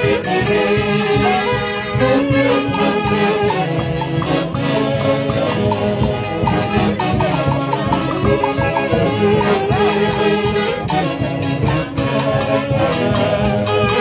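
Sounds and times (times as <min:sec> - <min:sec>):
wind instruments playing melody: 0:00.0 - 0:14.0.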